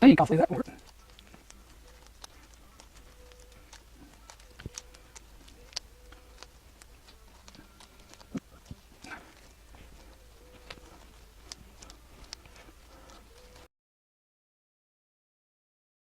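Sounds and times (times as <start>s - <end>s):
gloved hands kneading putty: 0.3s - 13.7s.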